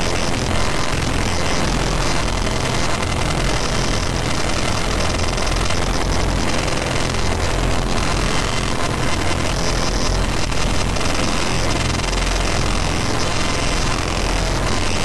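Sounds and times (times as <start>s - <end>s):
distorted synth noise wall: 0.0s - 15.0s.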